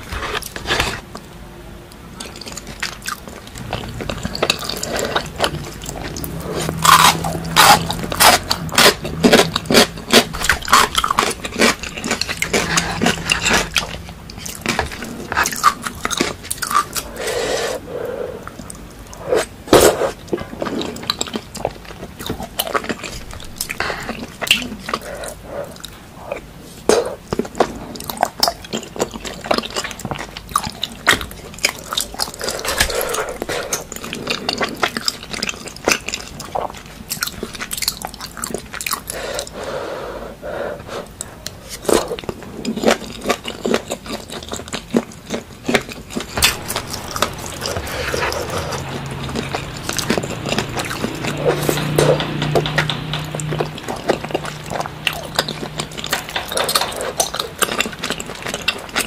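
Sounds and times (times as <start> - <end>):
people chewing and smacking food: 0.0 - 59.0.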